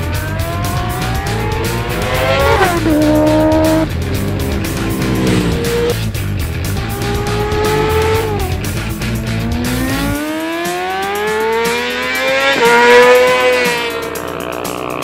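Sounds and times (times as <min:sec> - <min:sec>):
background music: 0:00.0 - 0:15.0
motorcycle engine accelerating: 0:00.0 - 0:15.0.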